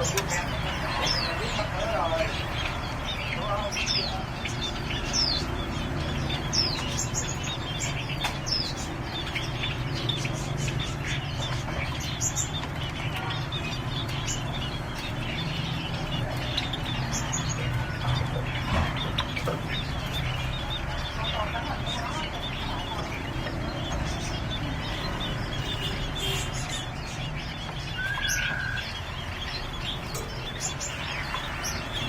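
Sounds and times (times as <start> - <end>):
caged songbirds chirping: 0.0 - 32.0.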